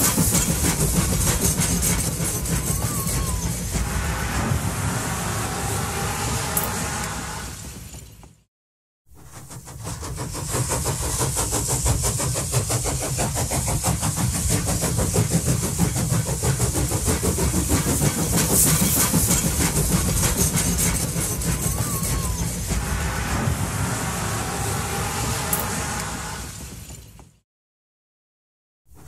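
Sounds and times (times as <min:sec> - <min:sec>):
steam hiss: 0:00.0 - 0:08.1, 0:09.2 - 0:27.2
steam locomotive exhaust beats: 0:00.0 - 0:08.4, 0:09.1 - 0:27.4.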